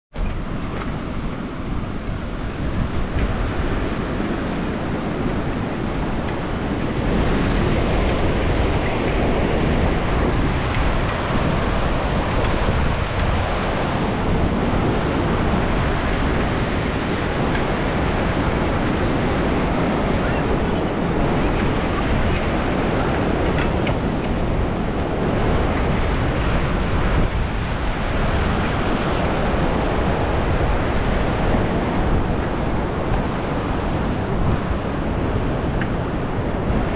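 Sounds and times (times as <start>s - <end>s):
wind buffeting microphone: 0.1s - 36.9s
river rapids rushing: 0.2s - 36.9s.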